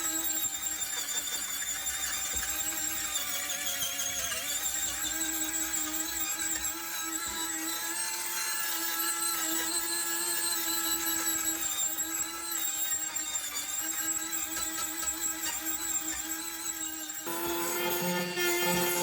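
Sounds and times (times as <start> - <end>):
power tool whining: 0.0 - 19.0.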